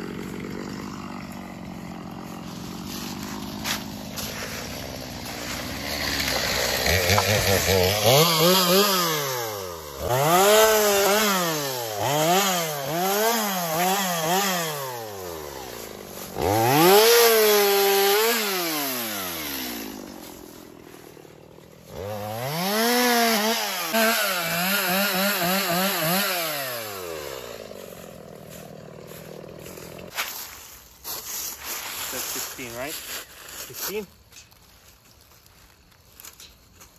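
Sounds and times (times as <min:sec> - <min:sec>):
chainsaw cutting branches: 0:00.0 - 0:34.7.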